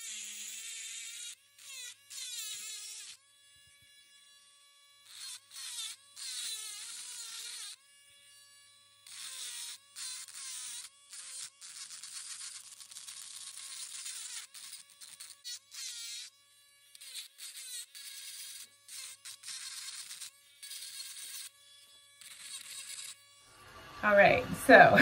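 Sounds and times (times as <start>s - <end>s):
rotary tool grinding rock: 0.0s - 24.2s.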